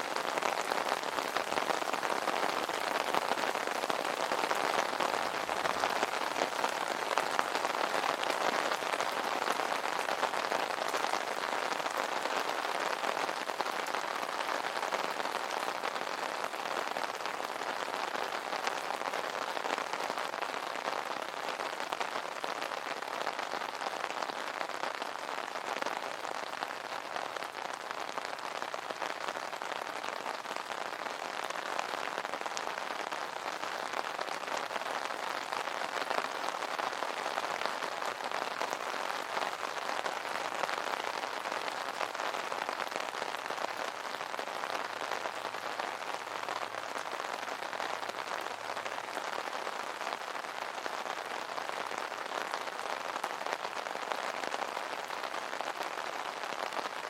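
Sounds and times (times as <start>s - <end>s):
rain drumming on umbrella: 0.0s - 57.0s.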